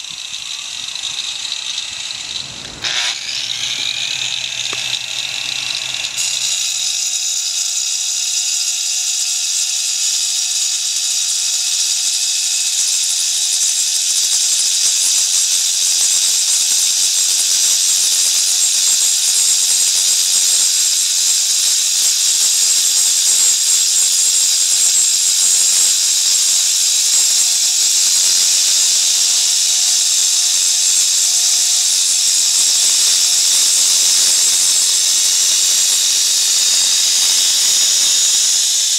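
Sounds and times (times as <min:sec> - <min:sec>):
angle grinder cutting stone: 0:00.0 - 0:38.9.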